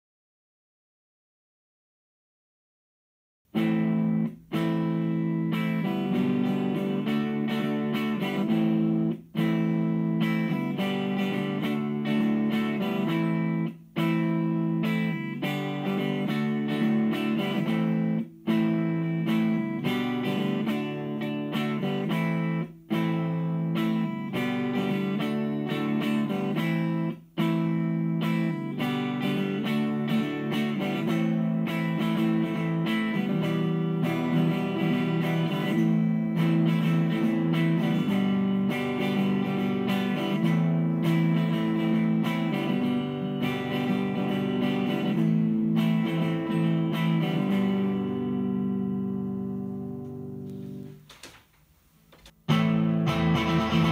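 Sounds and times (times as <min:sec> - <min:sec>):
clean electric guitar strumming: 0:03.5 - 0:51.0, 0:52.2 - 0:53.9.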